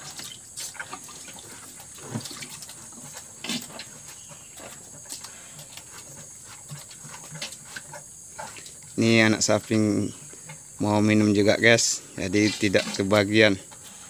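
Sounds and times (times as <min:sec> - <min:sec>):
cow slurping water: 0:00.0 - 0:14.0.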